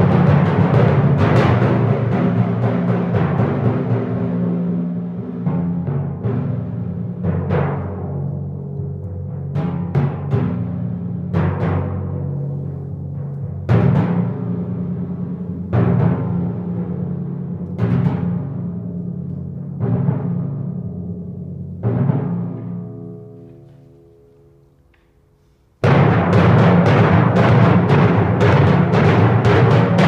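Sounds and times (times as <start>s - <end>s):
timpani strokes: 0.0s - 30.0s.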